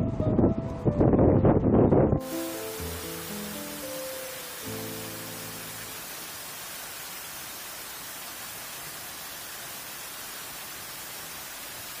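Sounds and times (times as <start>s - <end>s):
waterfall rushing into pool: 2.2s - 12.0s.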